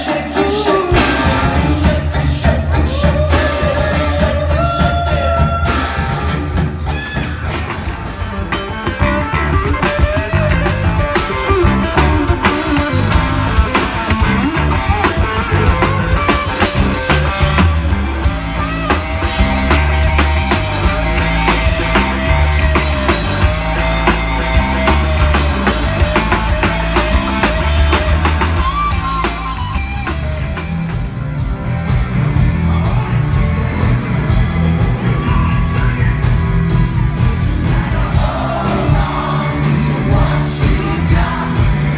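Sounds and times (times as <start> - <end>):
bass guitar: 0.0 - 41.9
drum kit: 0.0 - 41.9
electric guitars: 0.0 - 41.9.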